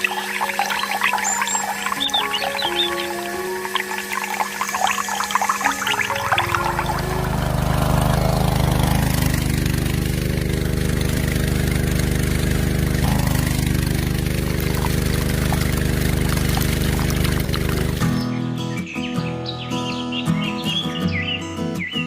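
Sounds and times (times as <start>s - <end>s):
small engine running: 0.0s - 18.3s.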